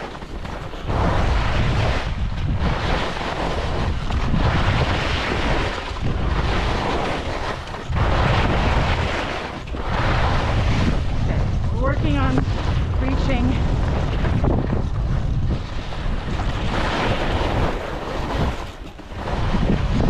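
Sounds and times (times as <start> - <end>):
skis sliding through snow: 0.0 - 20.0
wind rushing over microphone: 0.0 - 20.0.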